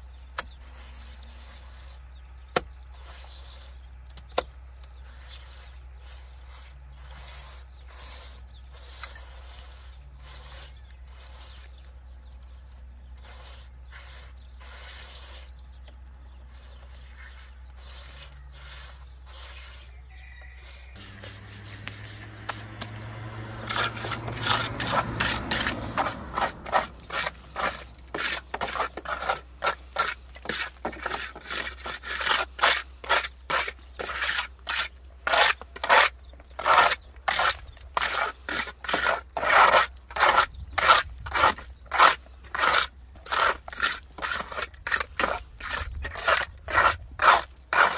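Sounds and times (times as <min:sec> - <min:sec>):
trowel scraping plaster: 0:00.0 - 0:47.9
hand smearing mud plaster: 0:00.4 - 0:03.9, 0:04.9 - 0:47.9.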